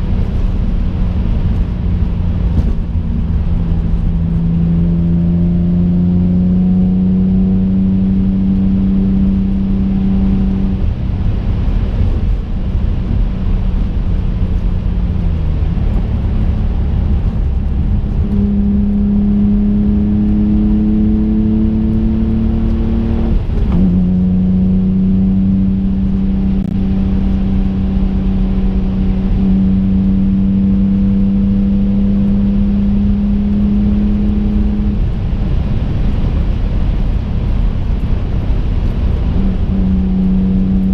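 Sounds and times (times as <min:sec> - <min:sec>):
car engine while driving: 0:00.0 - 0:40.9
road rumble: 0:00.0 - 0:40.9.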